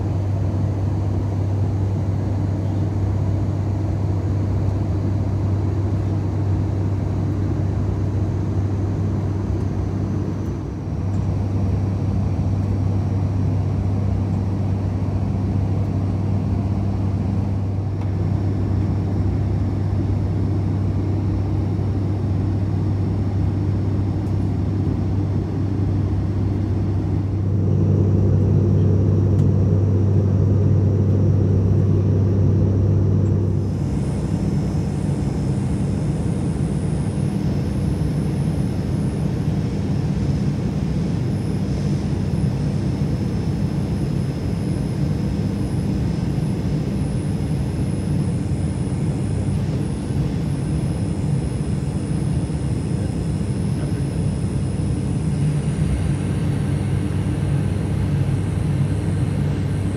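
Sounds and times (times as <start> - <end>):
turboprop engines droning in cabin: 0.0 - 59.9.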